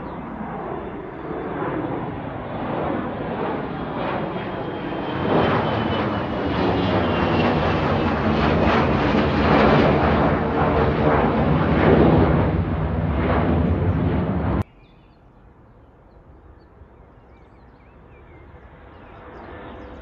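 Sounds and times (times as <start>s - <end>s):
aircraft engines roaring at takeoff: 0.0s - 14.7s, 15.6s - 20.0s.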